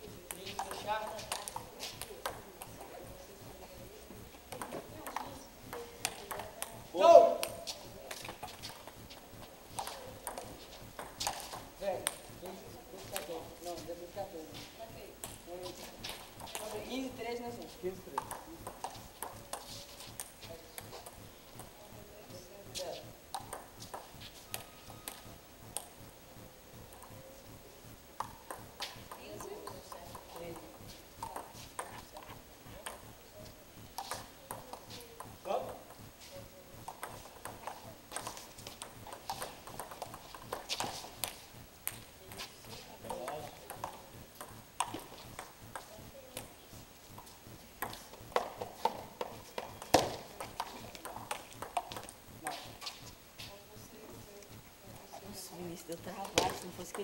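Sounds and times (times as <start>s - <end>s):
table-tennis ball bouncing: 0.2s - 3.6s, 4.4s - 13.4s, 15.2s - 21.8s, 22.8s - 26.0s, 26.8s - 27.2s, 28.2s - 33.2s, 33.9s - 36.0s, 36.8s - 46.5s, 47.2s - 53.1s, 56.1s - 57.0s.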